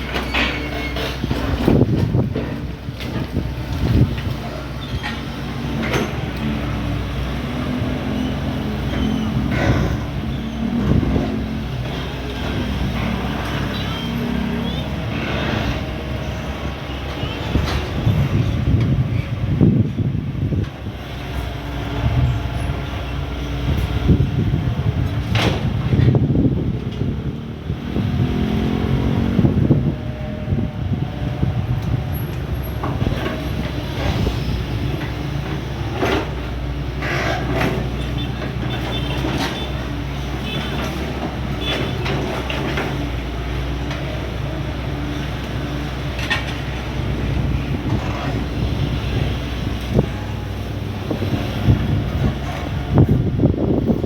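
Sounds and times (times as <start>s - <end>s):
excavator diesel engine rumbling: 0.0s - 54.0s.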